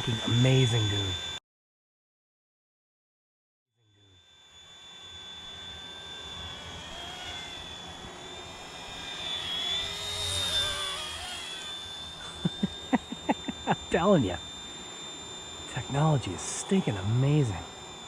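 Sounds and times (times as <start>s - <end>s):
rc helicopter whine: 0.0s - 1.4s, 3.8s - 18.0s.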